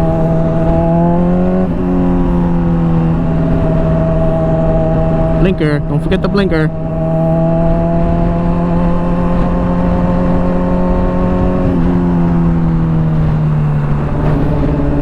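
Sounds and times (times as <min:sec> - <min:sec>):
motorcycle engine running: 0:00.0 - 0:15.0
wind rumbling on microphone: 0:00.0 - 0:15.0.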